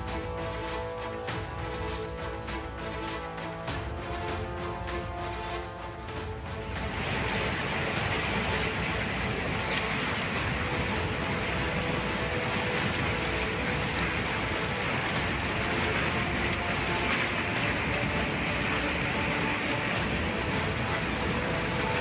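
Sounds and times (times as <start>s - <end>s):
floodwater rushing over weir: 0.0s - 22.0s.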